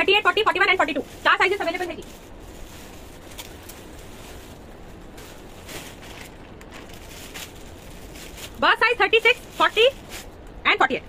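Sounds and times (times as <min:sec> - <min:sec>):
background hiss and hum: 0:00.0 - 0:11.0
faint rustles or clicks: 0:00.8 - 0:10.5.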